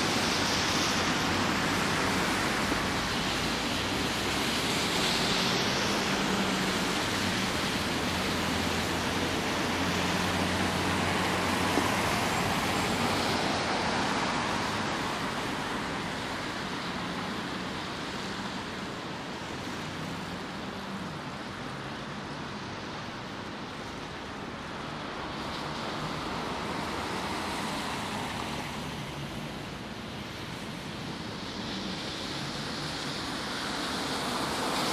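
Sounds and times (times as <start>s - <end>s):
tyres hissing on wet asphalt: 0.0s - 34.9s.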